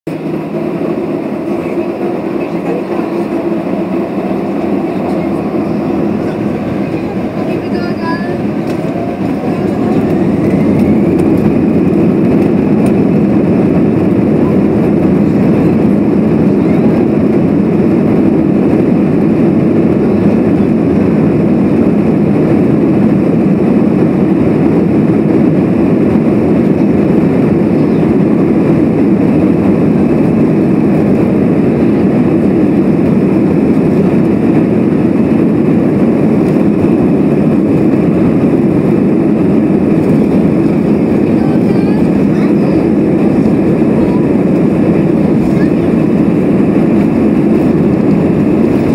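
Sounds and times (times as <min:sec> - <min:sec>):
jet engine thrust drone: 0:00.1 - 0:48.9
jet engines spooling up: 0:00.1 - 0:48.9.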